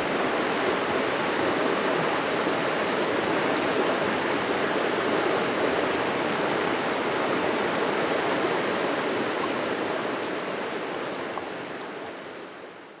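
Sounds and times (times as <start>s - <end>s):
river water rushing: 0.0s - 12.9s.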